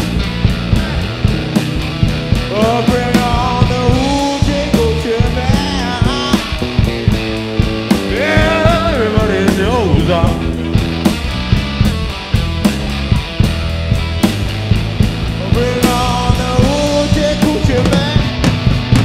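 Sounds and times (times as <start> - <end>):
drum kit: 0.0 - 19.0
electric bass: 0.0 - 19.0
electric guitar: 0.0 - 19.0.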